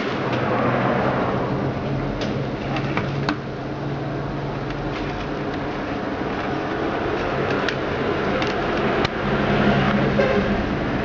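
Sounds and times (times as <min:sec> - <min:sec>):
washing machine spinning hum: 0:00.0 - 0:11.0.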